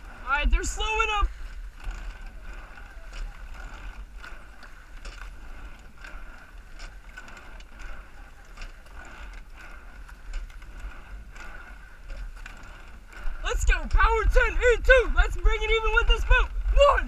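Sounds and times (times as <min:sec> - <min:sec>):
low rumble: 0:00.0 - 0:17.0
oars clicking in oarlocks: 0:00.0 - 0:17.0.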